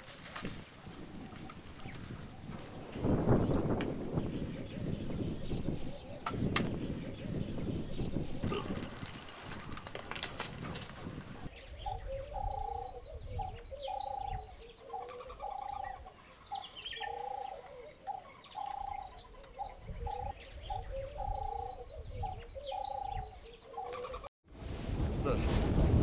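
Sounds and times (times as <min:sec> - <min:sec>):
doves cooing: 0:00.0 - 0:24.3.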